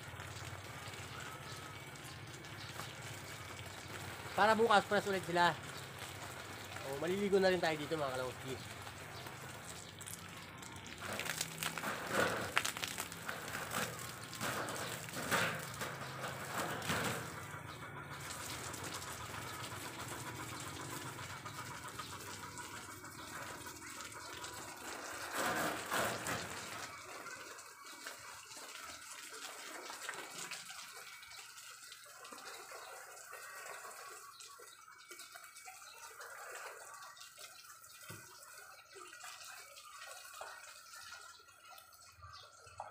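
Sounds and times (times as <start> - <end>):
garden hose spraying plants: 0.0 - 42.9.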